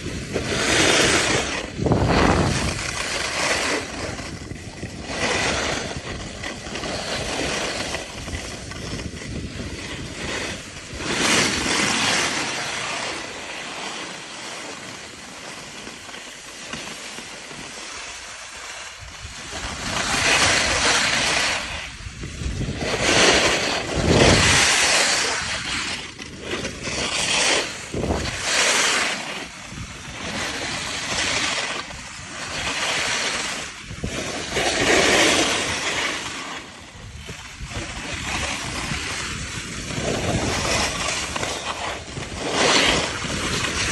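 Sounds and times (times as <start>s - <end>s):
wind on microphone: 0.0s - 13.4s, 19.0s - 43.9s
skis scraping over snow: 0.0s - 43.9s.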